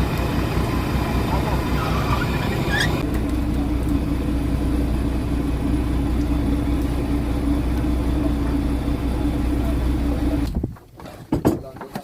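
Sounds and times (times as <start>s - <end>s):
boat engine droning: 0.0s - 10.6s.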